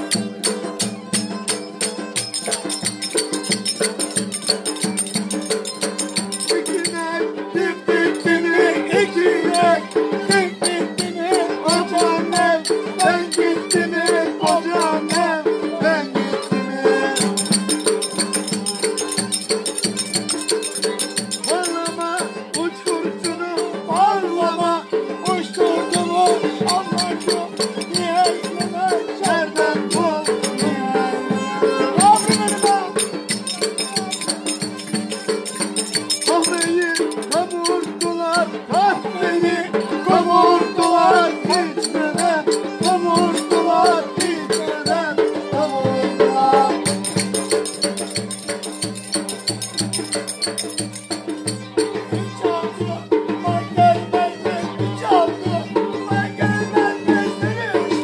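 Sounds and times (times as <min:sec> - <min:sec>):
rattling percussion beat: 0:00.0 - 0:58.0
violin playing folk dance tune: 0:00.0 - 0:58.0.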